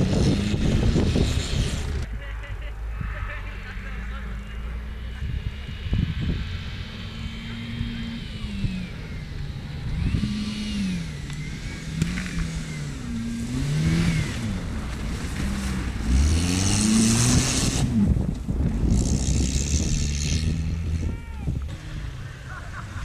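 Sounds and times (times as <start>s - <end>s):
car engine revving: 0.0s - 2.1s, 2.8s - 23.0s.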